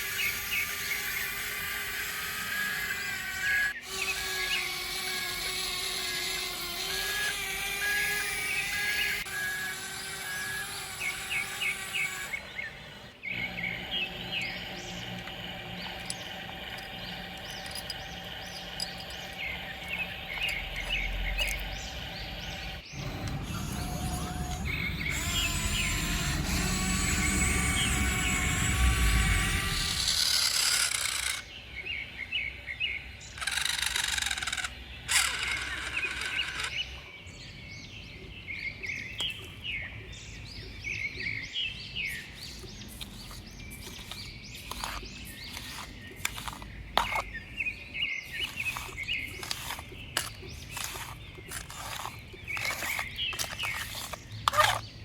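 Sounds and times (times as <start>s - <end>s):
birds chirping: 0.0s - 30.6s, 31.2s - 55.0s
small motor whining: 0.0s - 31.5s, 33.4s - 36.9s, 42.0s - 54.9s.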